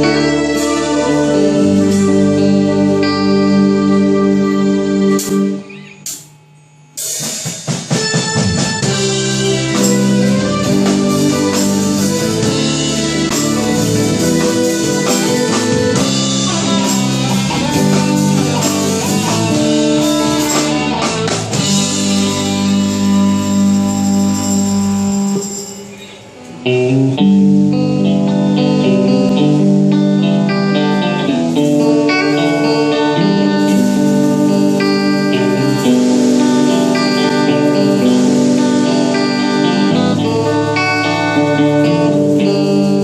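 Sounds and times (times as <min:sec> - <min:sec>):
band playing instrumental music: 0:00.0 - 0:43.0.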